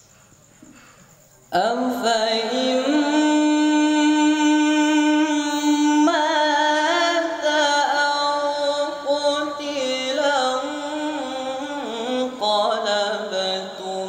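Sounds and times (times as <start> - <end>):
male voice reciting melodically: 1.6 - 14.0.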